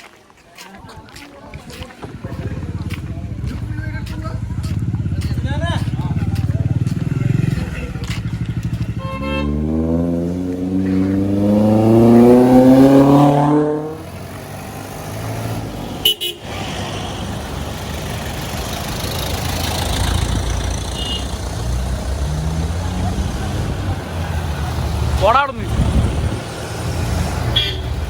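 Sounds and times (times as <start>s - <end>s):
engine revving: 2.5s - 28.0s.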